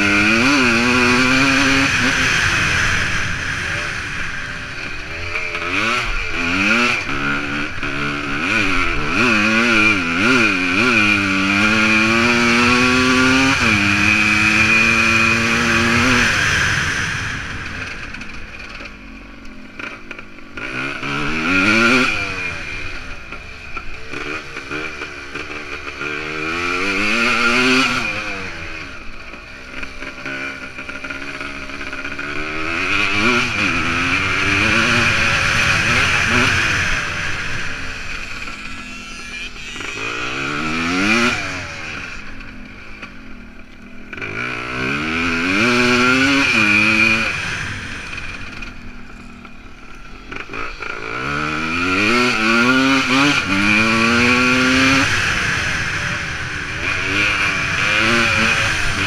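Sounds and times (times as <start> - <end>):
two-stroke engine accelerating: 0.0 - 59.0.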